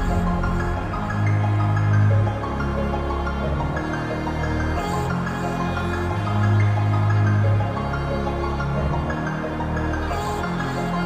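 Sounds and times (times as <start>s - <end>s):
music with held notes and bass: 0.0s - 11.0s.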